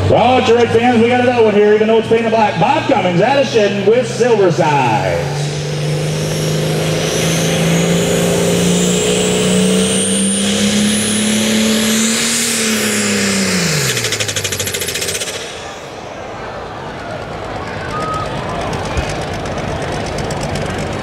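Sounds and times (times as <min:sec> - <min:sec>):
tractor diesel engine at full throttle: 0:00.0 - 0:21.0.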